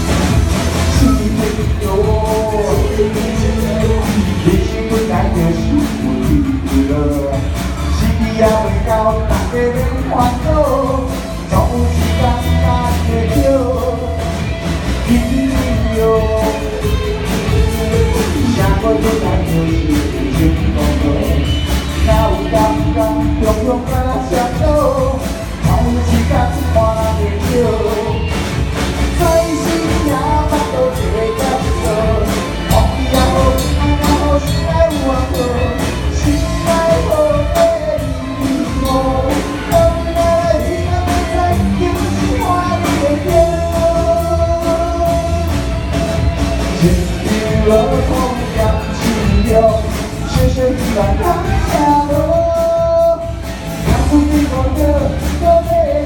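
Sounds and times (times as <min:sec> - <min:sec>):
live rock-pop band: 0:00.0 - 0:56.0.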